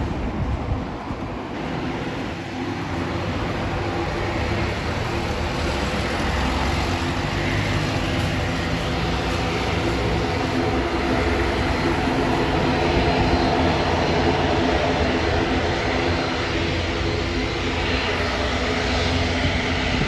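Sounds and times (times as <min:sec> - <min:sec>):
aircraft engines humming: 0:00.0 - 0:20.0.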